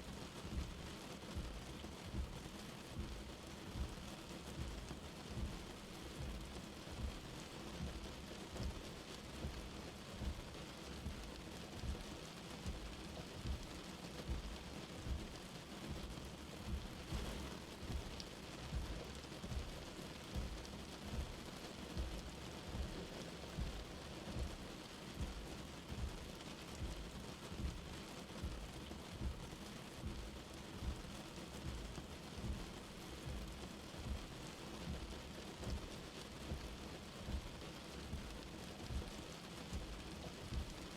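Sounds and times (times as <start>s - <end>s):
light rain hissing: 0.0s - 40.9s
soft thuds of raindrops: 0.3s - 40.9s.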